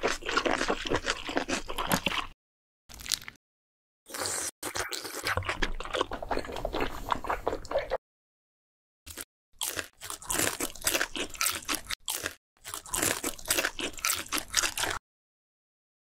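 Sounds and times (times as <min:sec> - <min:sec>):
crunching and chewing fried food: 0:00.0 - 0:03.4, 0:04.1 - 0:08.0, 0:09.1 - 0:15.0.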